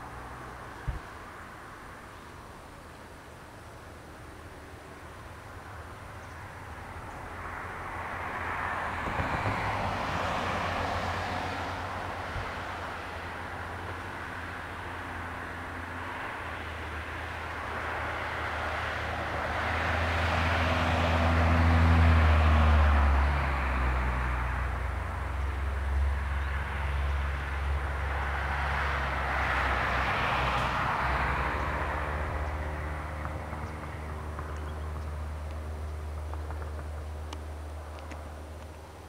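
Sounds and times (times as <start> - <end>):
engine drone: 0.0 - 39.0.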